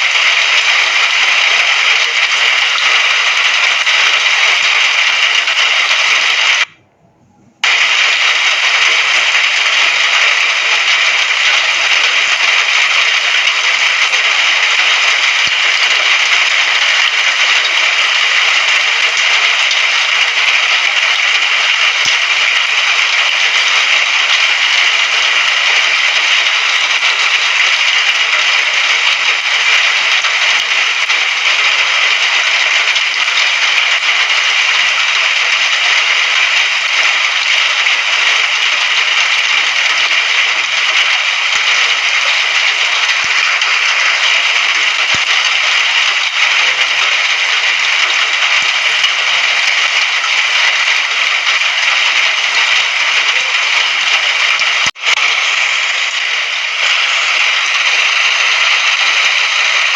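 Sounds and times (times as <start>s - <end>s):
steady rain: 0.0s - 6.8s, 7.6s - 59.9s.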